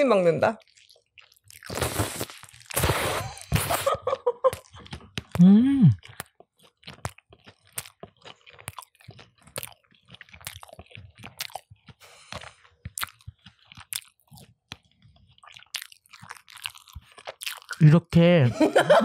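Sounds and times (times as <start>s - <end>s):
crunchy chewing: 0.6s - 17.8s.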